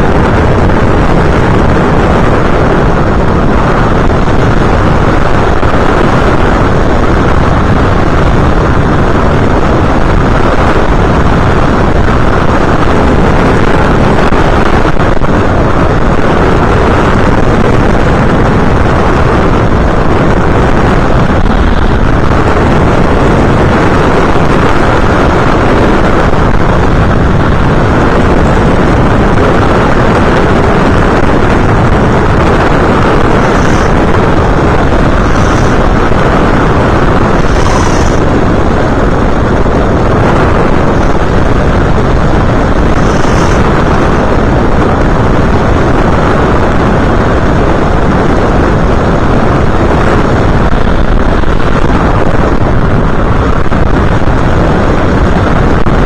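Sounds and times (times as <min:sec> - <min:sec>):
motor and propeller noise: 0:00.0 - 0:56.0
wind rushing on microphone: 0:00.0 - 0:56.0.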